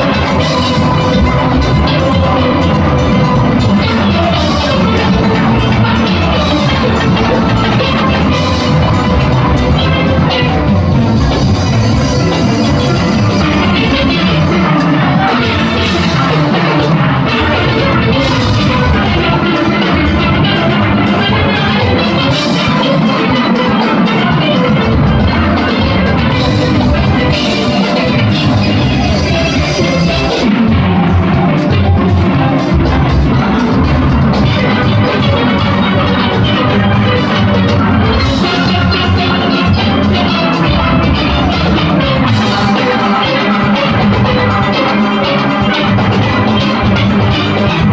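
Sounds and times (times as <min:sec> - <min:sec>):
drums keeping beat: 0:00.0 - 0:47.9
steel band playing: 0:00.0 - 0:47.9.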